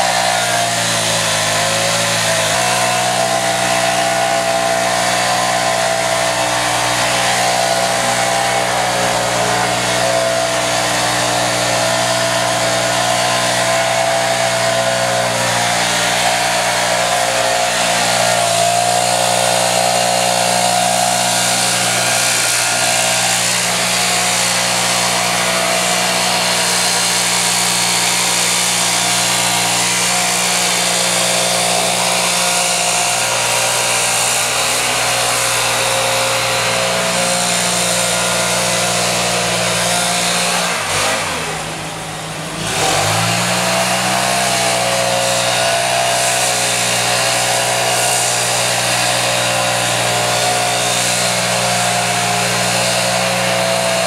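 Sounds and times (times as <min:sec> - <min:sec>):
leaf blower running: 0:00.0 - 0:54.0.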